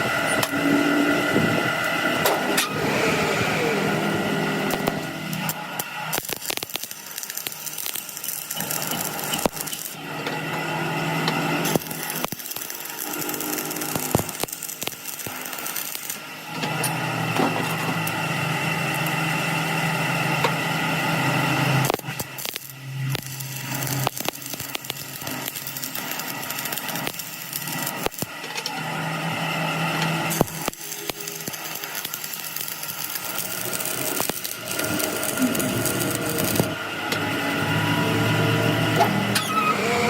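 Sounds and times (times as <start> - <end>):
machine motor hum: 0.0 - 40.0.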